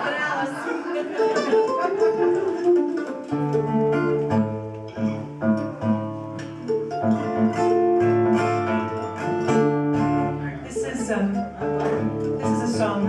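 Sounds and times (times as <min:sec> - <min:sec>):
acoustic guitar picking: 0:01.0 - 0:13.0.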